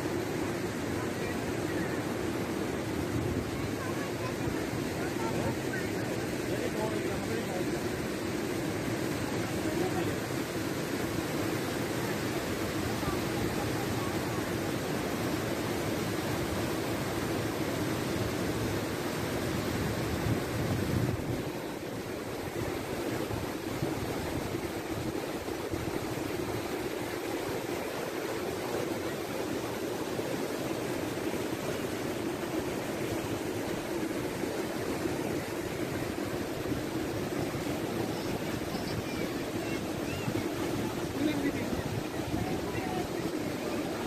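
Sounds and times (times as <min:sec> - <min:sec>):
river rapids rushing over rocks: 0:00.0 - 0:44.0.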